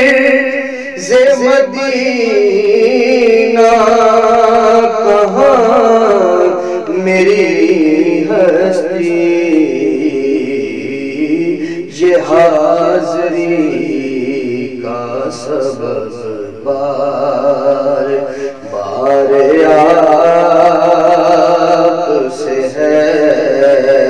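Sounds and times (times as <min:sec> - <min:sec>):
man singing into a microphone: 0:00.0 - 0:24.0.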